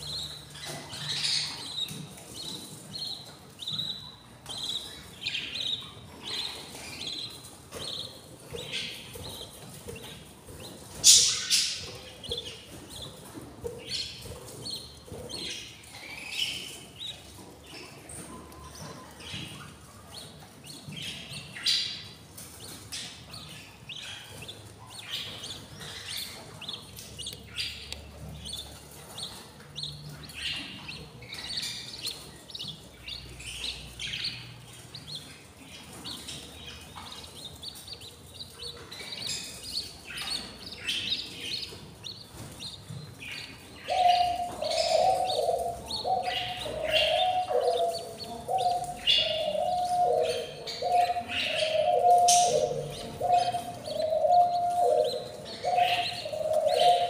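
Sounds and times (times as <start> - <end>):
budgies chirping: 0.0 - 57.0.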